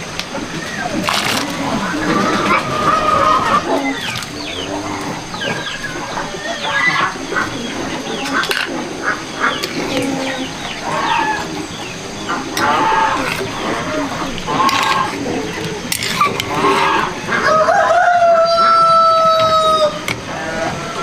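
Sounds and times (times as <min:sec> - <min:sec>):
chickens chirping: 0:00.0 - 0:21.0
chickens clucking: 0:00.0 - 0:21.0.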